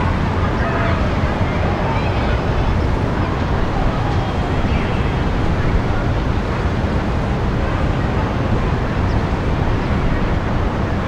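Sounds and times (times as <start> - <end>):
light wind: 0.0 - 11.0.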